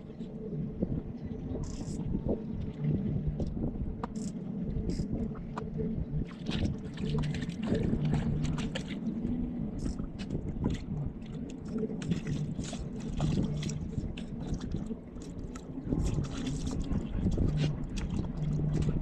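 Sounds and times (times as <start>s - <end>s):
water splashing against hull: 0.0s - 19.0s
outboard motor running: 2.4s - 19.0s.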